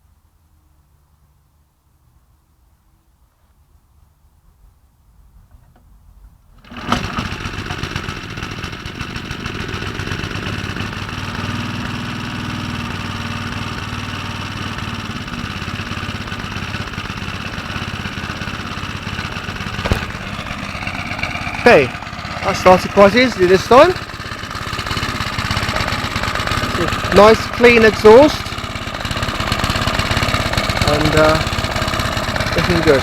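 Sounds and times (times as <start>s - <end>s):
small petrol engine running: 6.6s - 33.0s.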